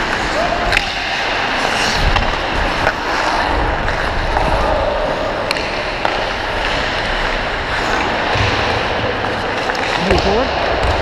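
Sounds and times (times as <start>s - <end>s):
skate blades scraping ice: 0.0s - 10.4s.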